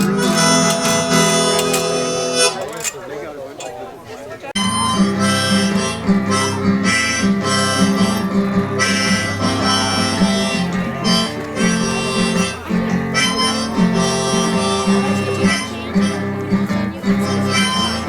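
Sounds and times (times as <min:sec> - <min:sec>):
harmonica playing: 0:00.0 - 0:02.8, 0:04.6 - 0:18.0
acoustic guitar: 0:00.0 - 0:03.0, 0:04.6 - 0:18.0.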